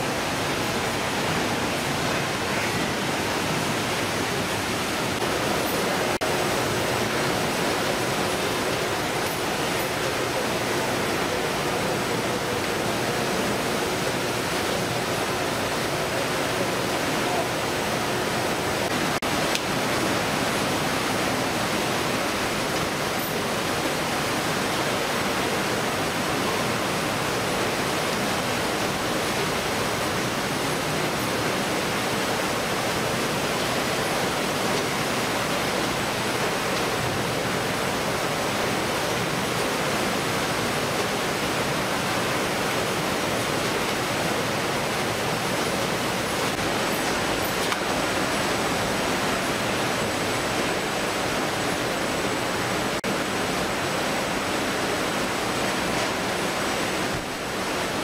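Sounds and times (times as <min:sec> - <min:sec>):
conveyor machinery running: 0:00.0 - 0:58.0.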